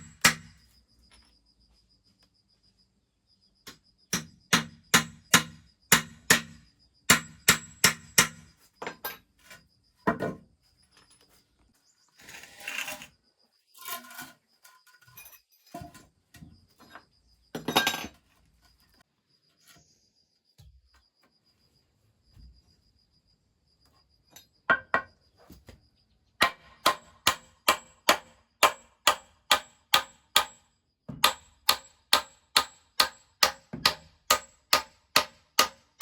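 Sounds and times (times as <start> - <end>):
faint cricket chirping: 0.0 - 36.0.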